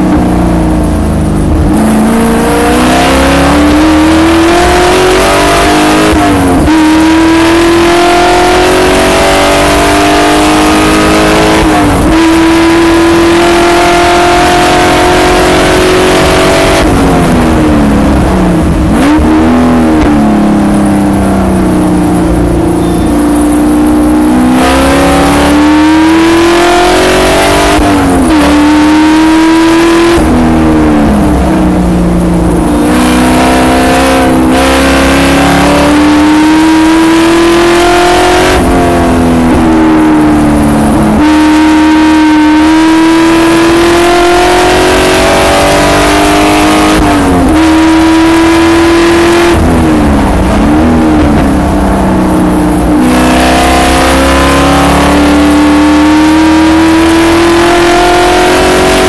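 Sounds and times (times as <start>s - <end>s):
racing car engine accelerating: 0.0s - 59.0s.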